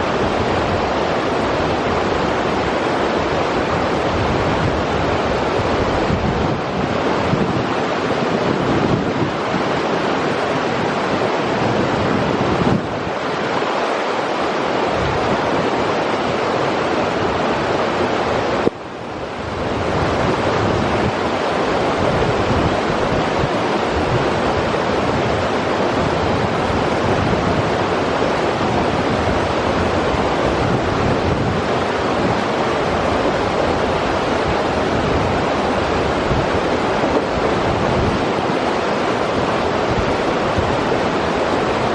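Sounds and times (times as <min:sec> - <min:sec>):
river water rushing: 0:00.0 - 0:41.9.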